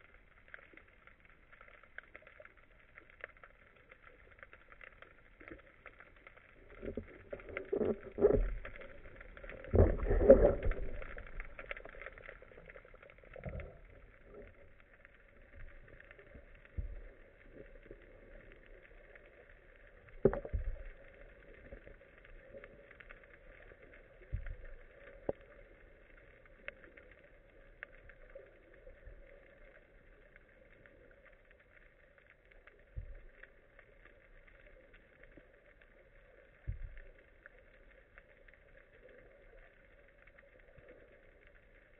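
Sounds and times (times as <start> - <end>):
faint underwater hum: 0.0 - 41.9.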